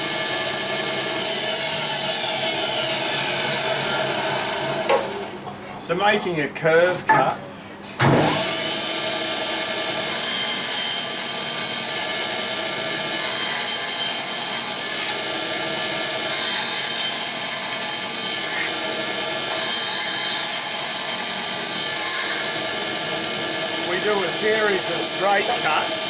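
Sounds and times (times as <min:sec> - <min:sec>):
bandsaw cutting wood: 0:00.0 - 0:05.4, 0:08.1 - 0:26.0.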